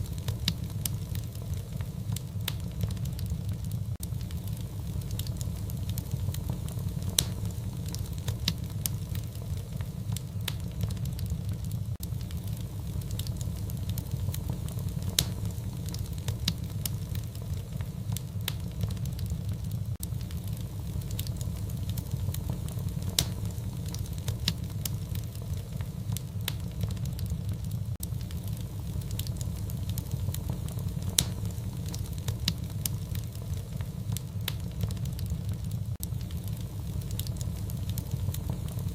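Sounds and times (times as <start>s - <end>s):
fire crackling in a fireplace: 0.0s - 38.9s
sharp pops of fire: 0.0s - 38.9s.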